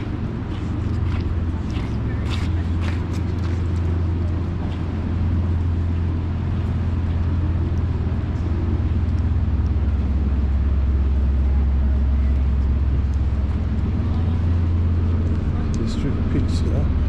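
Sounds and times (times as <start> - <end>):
faint street noise: 0.0 - 17.0
low mechanical hum: 0.0 - 17.0.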